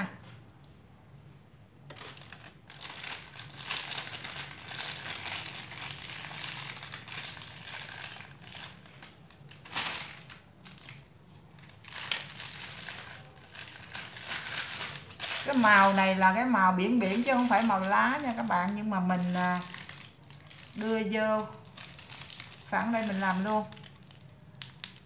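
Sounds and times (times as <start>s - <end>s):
plastic piping bag crinkling: 1.8s - 25.0s.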